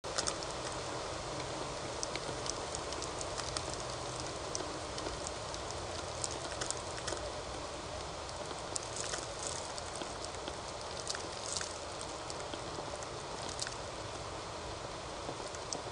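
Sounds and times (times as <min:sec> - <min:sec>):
microphone hiss: 0:00.0 - 0:15.9
light clicks and crackles: 0:00.1 - 0:15.9.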